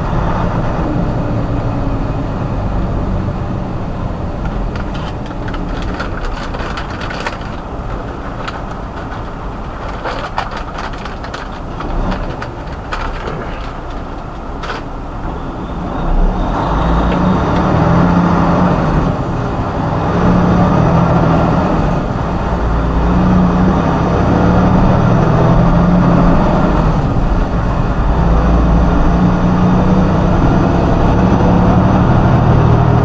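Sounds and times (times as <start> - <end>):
road noise: 0.0 - 33.0
truck diesel engine: 0.0 - 33.0.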